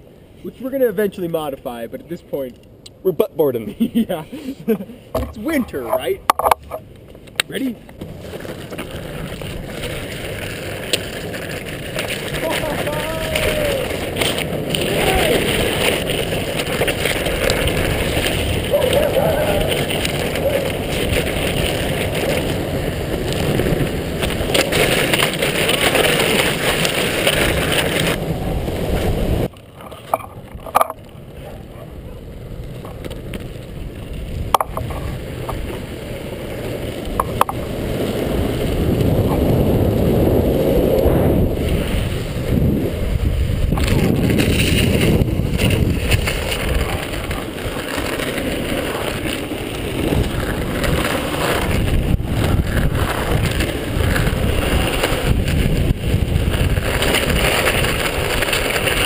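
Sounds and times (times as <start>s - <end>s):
wheels and wind rushing: 0.0s - 59.0s.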